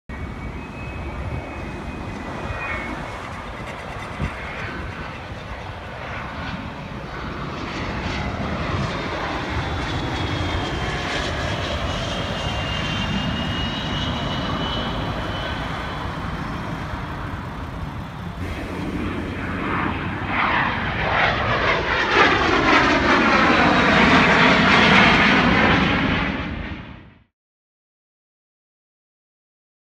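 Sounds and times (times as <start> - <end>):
jet engines whining and roaring: 0.1 - 27.3.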